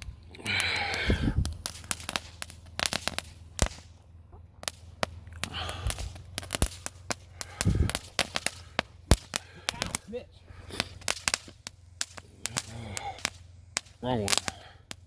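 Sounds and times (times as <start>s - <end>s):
fireworks hiss: 0.0s - 4.0s, 4.6s - 15.0s
fireworks crackling and popping: 0.0s - 15.0s.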